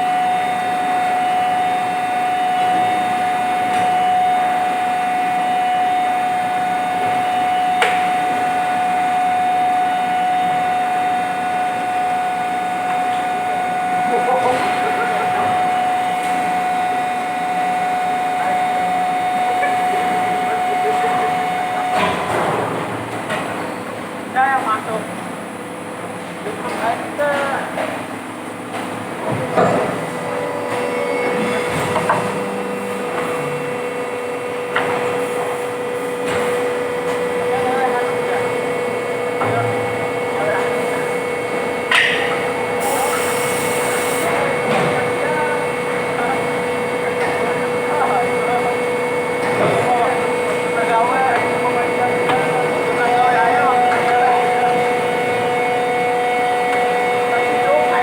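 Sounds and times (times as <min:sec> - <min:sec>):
machines droning and humming: 0:00.0 - 0:58.0.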